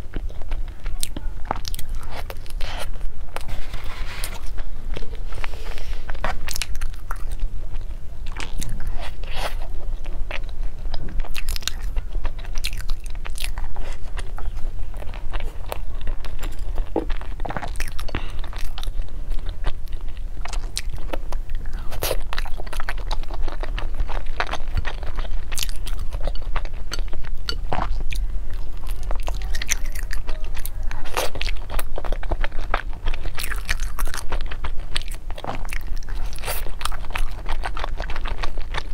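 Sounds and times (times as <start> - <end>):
chewing flaky pastry: 0.0 - 38.9.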